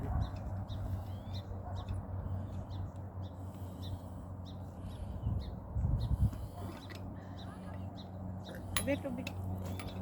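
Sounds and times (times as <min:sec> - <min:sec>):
bird chirping: 0:00.1 - 0:10.0.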